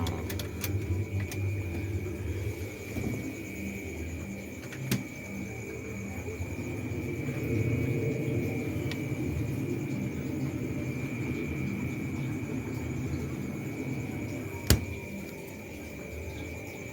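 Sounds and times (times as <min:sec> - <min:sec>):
refrigerator humming: 0:00.0 - 0:16.9.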